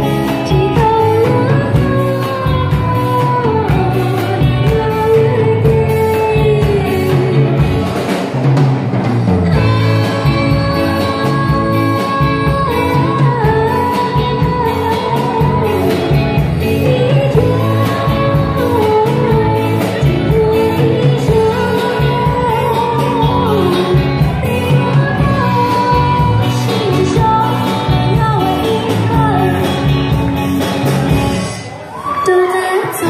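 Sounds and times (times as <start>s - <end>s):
woman singing into a microphone: 0.0s - 7.9s, 9.4s - 30.1s, 31.4s - 33.0s
drum kit: 0.0s - 32.2s
electric guitar: 0.0s - 33.0s.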